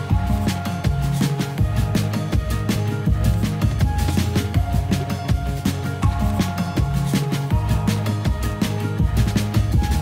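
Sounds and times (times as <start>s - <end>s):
bass line: 0.0s - 10.0s.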